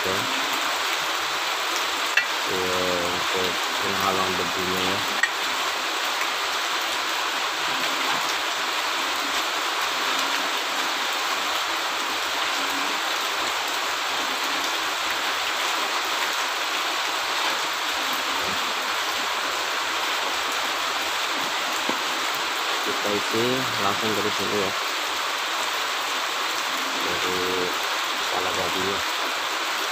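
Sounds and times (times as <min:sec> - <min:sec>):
steady rushing hiss: 0:00.0 - 0:29.9.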